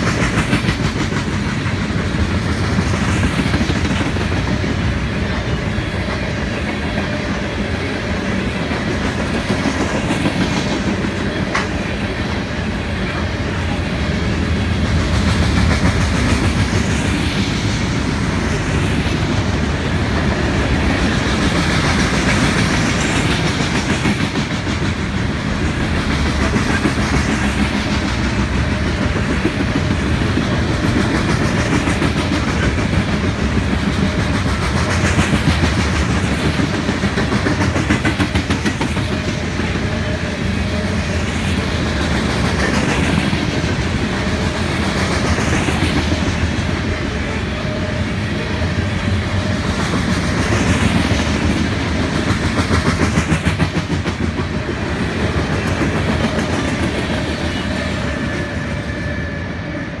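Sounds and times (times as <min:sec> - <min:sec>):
freight train wheels clicking: 0:00.0 - 1:00.0
train rumble: 0:00.0 - 1:00.0.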